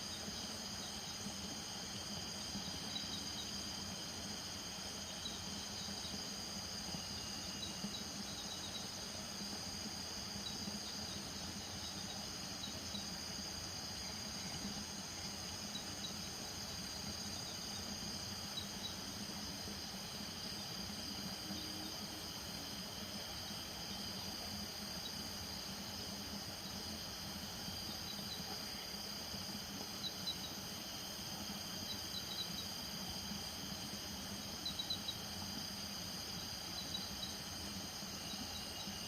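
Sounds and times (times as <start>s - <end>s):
crickets trilling: 0.0s - 39.0s.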